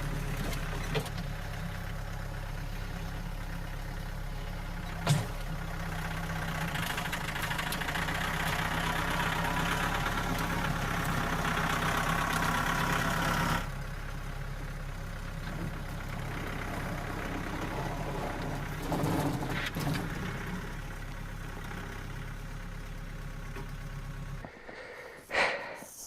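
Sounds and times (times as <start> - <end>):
vehicle engine running: 0.0 - 25.8.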